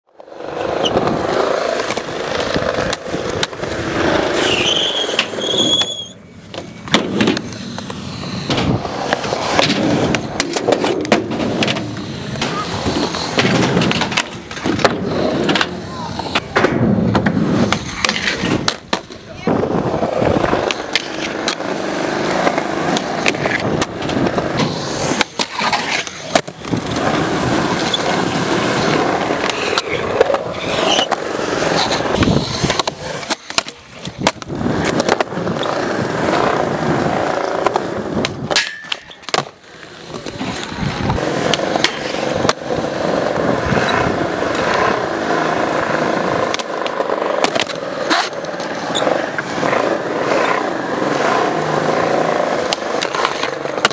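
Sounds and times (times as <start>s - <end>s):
skateboard wheels rolling on concrete: 0.1s - 53.9s
skateboard popping and landing: 0.2s - 53.9s.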